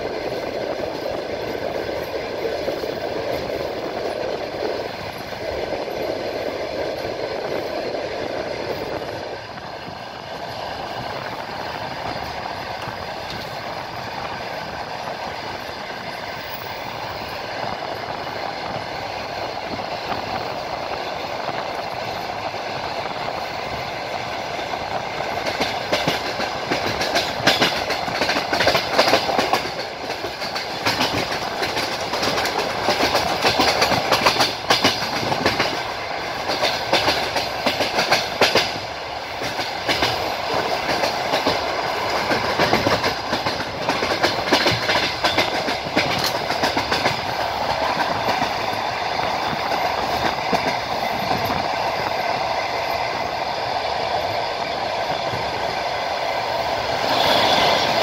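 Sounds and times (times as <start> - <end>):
train rumble: 0.0 - 58.0
train wheels clattering over joints: 0.0 - 58.0.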